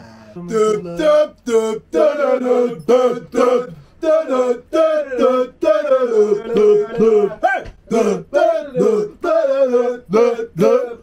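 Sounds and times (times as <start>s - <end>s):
man singing unaccompanied: 0.3s - 11.0s.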